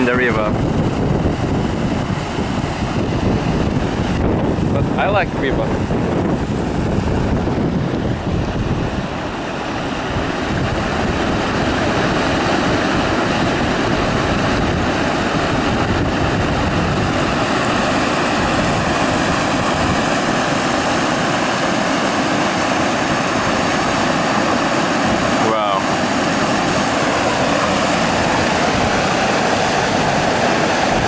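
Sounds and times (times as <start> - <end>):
river rushing: 0.0 - 31.0
wind buffeting microphone: 0.0 - 31.0.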